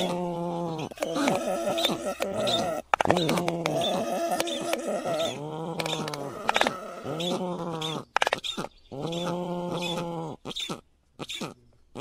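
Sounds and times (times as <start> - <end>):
stork calling: 0.0 - 12.0.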